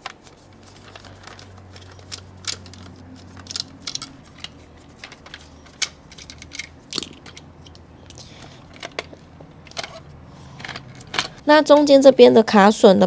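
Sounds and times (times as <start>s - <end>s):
screwdriver clicks and scrapes: 0.0s - 11.4s
faint steady hum: 0.0s - 13.0s.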